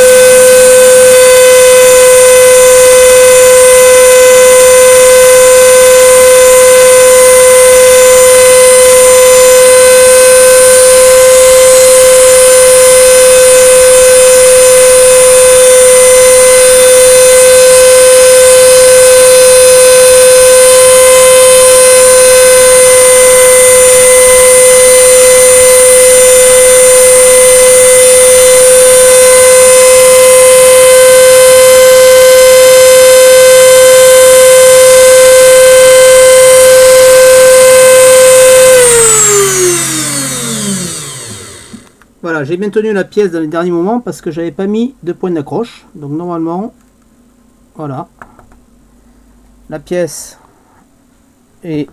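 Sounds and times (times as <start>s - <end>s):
router spindle high-pitched whine: 0.0s - 42.0s.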